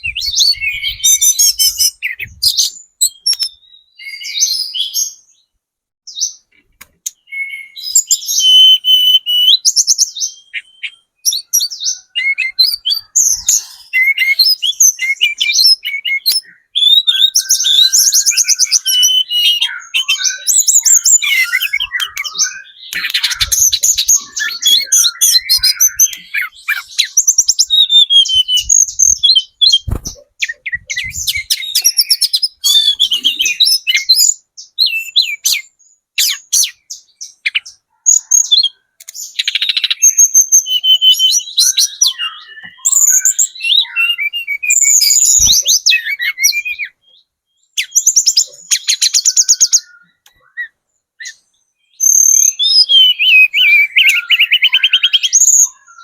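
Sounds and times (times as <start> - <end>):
bird singing trills and chattering: 0.0 - 5.4, 6.1 - 56.0.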